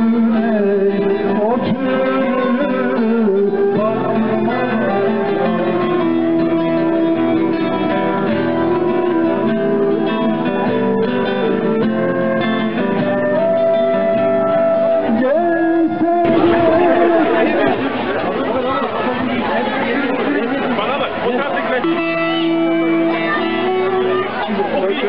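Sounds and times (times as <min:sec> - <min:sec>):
plucked string instrument: 0:00.0 - 0:25.0.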